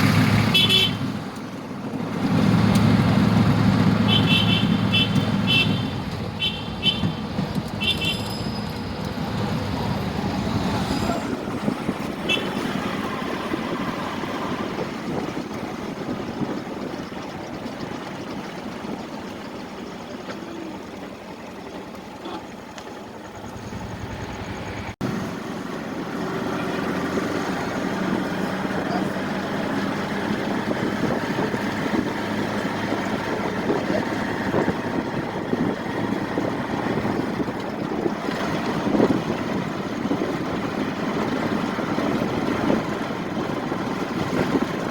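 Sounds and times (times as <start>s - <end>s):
vehicle engines running: 0.0s - 44.9s.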